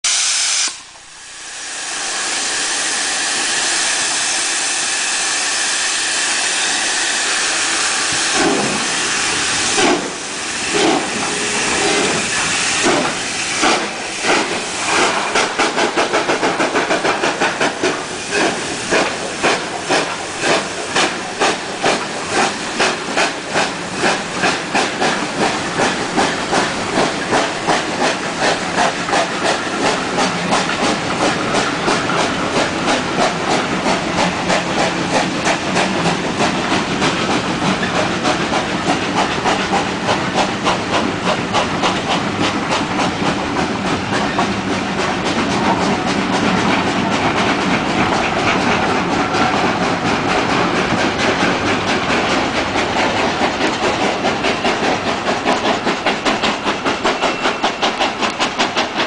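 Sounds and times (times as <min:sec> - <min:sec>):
steam locomotive hissing: 0:00.0 - 0:59.0
steam locomotive exhaust chuffs: 0:00.1 - 0:59.0.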